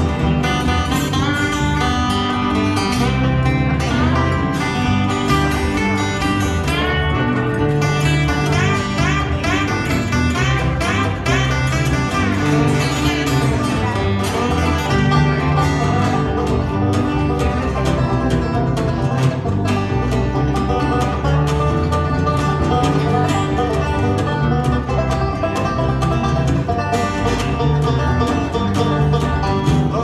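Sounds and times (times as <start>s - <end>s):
acoustic guitar picking: 0.0s - 30.0s
banjo picking: 0.0s - 30.0s.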